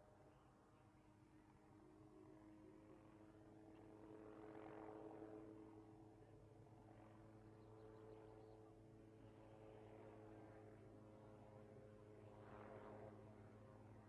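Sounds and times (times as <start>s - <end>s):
faint helicopter drone: 0.0s - 14.0s.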